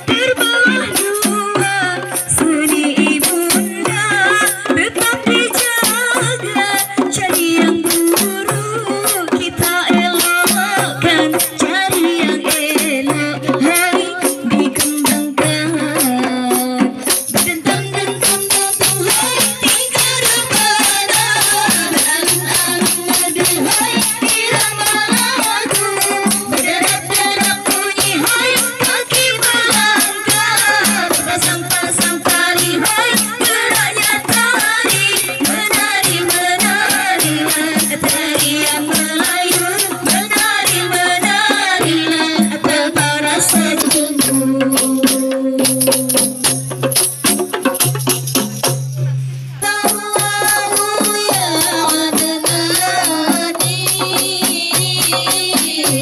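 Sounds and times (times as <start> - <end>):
woman singing into microphone: 0.0 - 46.5, 49.6 - 56.0
frame drums beaten by hand: 0.0 - 56.0.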